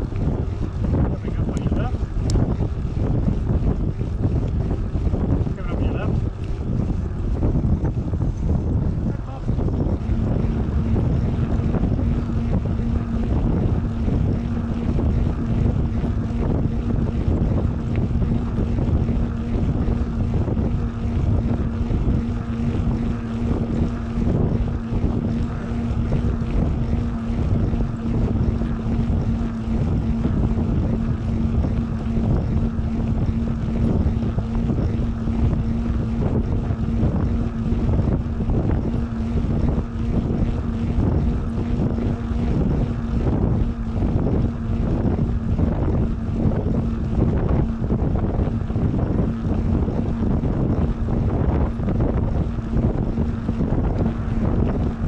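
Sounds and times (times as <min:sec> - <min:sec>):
steady droning hum: 0:00.0 - 0:55.0
wind buffeting microphone: 0:00.0 - 0:55.0.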